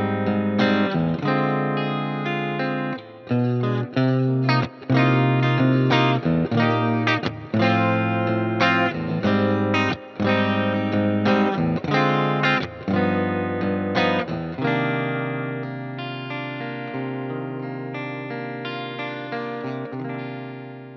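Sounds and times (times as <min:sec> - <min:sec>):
backing track music: 0:00.0 - 0:20.9
overdriven electric guitar: 0:00.0 - 0:20.9.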